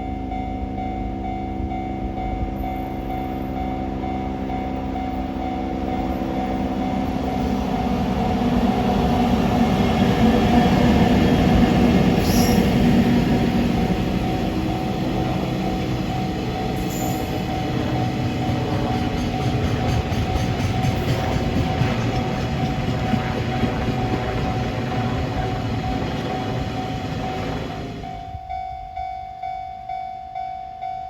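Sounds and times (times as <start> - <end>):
freight train wheels on rails: 1.6 - 28.8.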